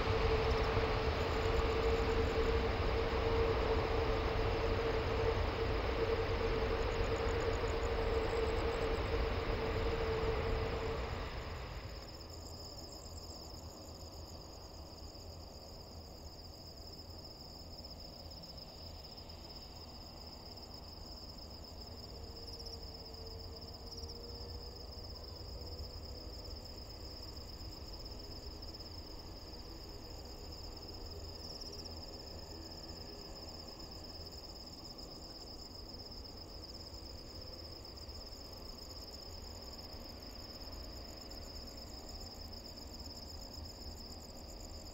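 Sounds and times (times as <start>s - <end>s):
night insects chirring: 0.0s - 44.9s.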